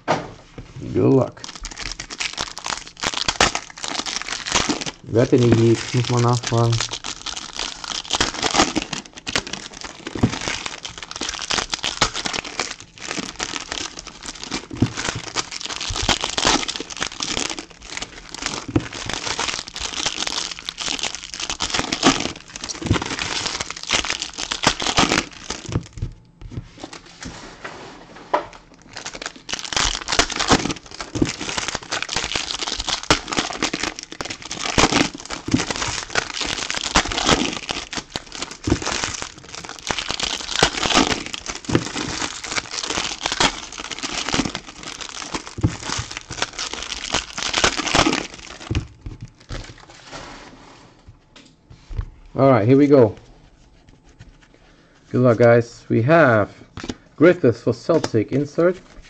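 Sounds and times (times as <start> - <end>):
wrappers crinkling and tearing: 0.9 - 27.4, 28.6 - 50.2.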